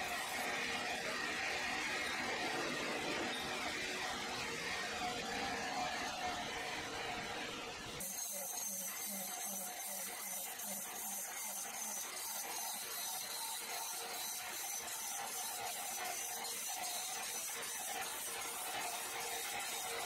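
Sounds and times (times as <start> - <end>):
band saw cutting through log: 0.0 - 6.2, 8.0 - 20.0.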